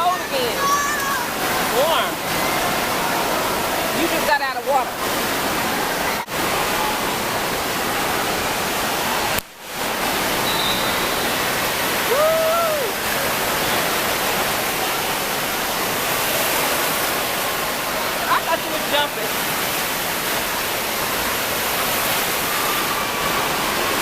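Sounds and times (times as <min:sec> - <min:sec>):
water rushing and splashing: 0:00.0 - 0:24.0.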